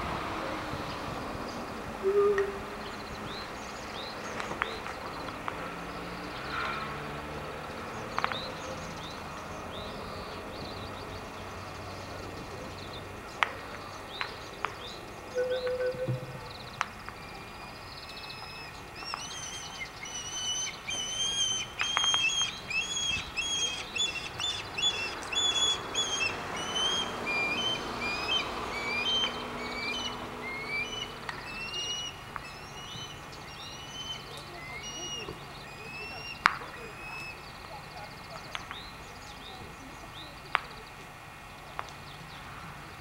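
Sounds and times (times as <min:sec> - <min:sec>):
steady outdoor hiss: 0:00.0 - 0:43.0
small songbirds chirping: 0:00.5 - 0:43.0.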